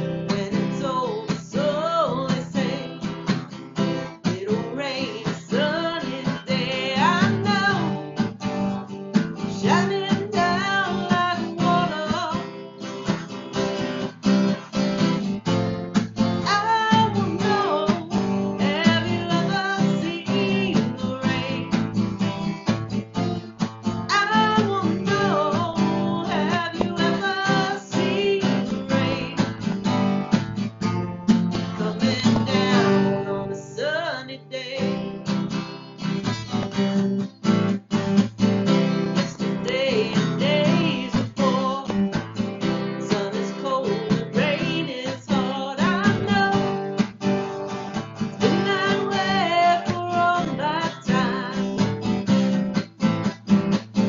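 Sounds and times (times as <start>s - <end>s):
acoustic guitar strumming: 0.0s - 54.0s
guitar melody line: 0.0s - 54.0s.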